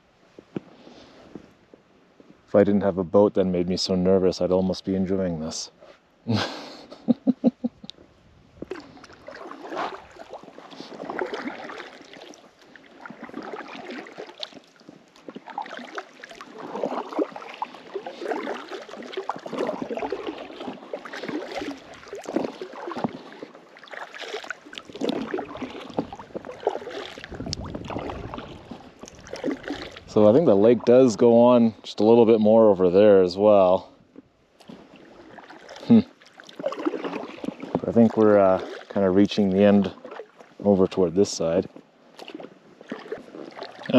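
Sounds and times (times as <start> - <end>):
paddle splashing in water: 7.9 - 43.9.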